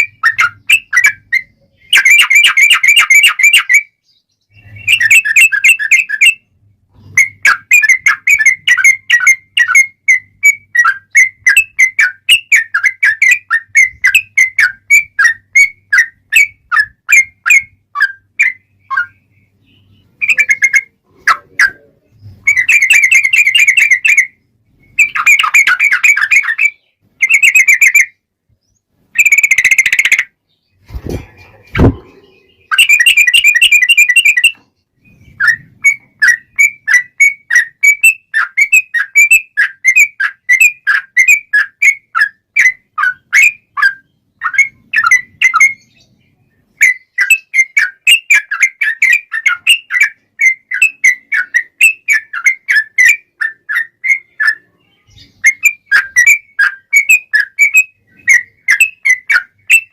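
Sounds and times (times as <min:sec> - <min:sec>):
bulbul singing whistled chirps: 0:00.0 - 0:06.5, 0:07.2 - 0:30.8, 0:31.7 - 0:59.9.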